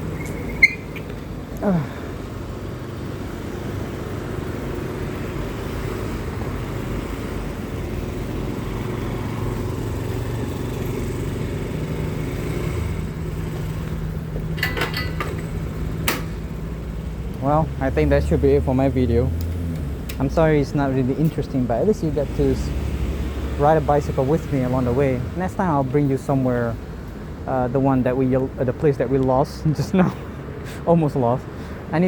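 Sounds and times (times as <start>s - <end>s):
low engine hum: 0.0s - 29.4s
bicycle road noise: 0.0s - 32.0s
motor traffic: 0.0s - 32.0s.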